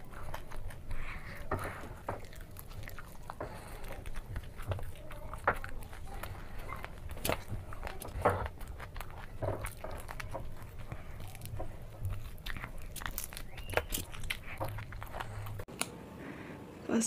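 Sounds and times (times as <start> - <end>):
wet mouth clicks and smacks: 0.0 - 15.9
person chewing food: 0.0 - 16.0
faint low hum: 0.0 - 17.0.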